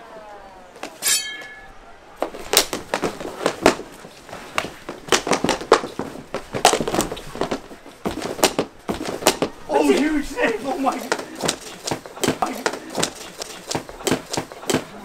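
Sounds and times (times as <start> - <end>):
hockey sticks clacking: 0.8 - 15.0.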